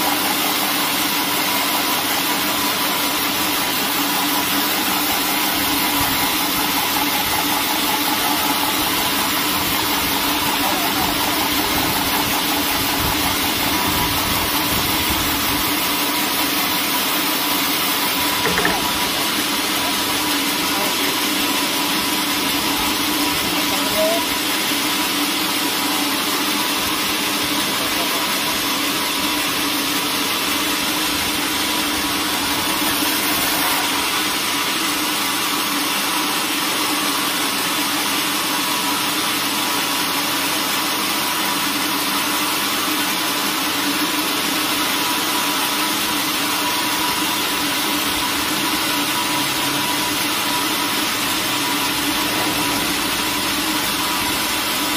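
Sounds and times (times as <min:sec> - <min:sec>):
band saw cutting wood: 0:00.0 - 0:37.5, 0:41.4 - 0:54.9.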